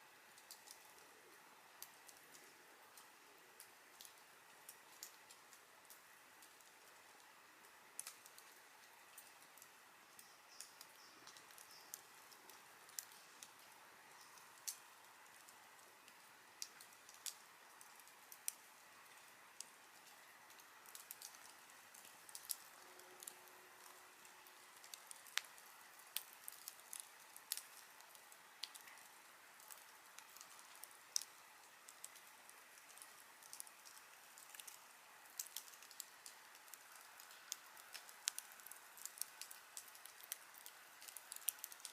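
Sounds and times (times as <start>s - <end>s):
campfire crackling: 0.0s - 41.9s
faint hiss: 0.0s - 41.9s.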